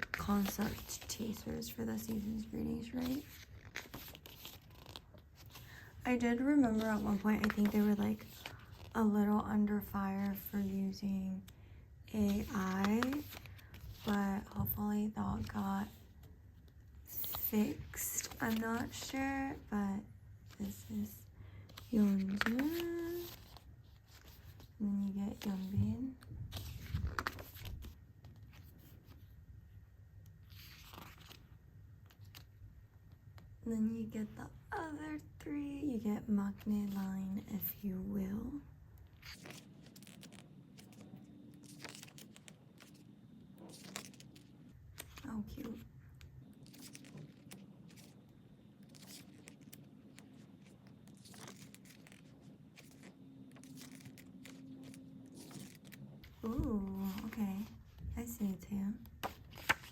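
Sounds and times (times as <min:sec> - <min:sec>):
paper pages rustling: 0:00.0 - 0:11.6, 0:12.2 - 0:19.7, 0:20.4 - 0:29.4, 0:30.4 - 0:32.6, 0:39.1 - 0:59.9.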